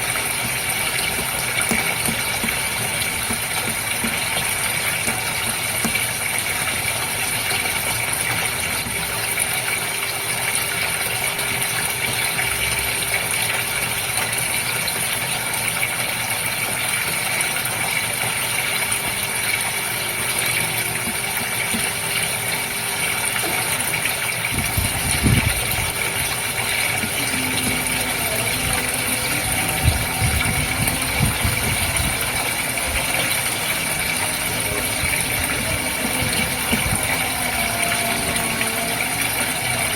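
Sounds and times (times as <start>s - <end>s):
fish tank water running: 0.0s - 39.9s
pump hum: 0.0s - 39.9s.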